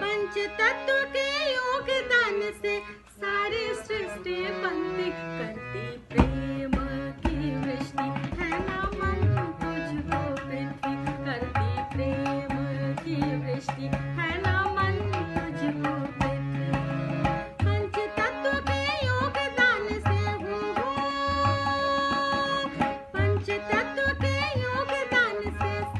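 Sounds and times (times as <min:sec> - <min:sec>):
tabla playing a steady rhythm: 0:00.0 - 0:25.9.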